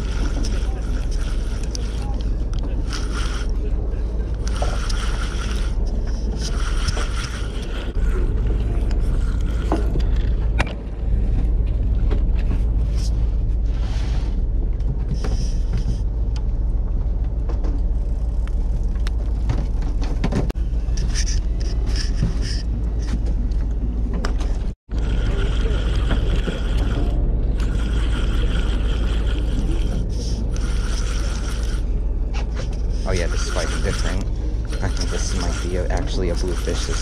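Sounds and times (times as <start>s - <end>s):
boat engine low rumble: 0.0s - 37.0s.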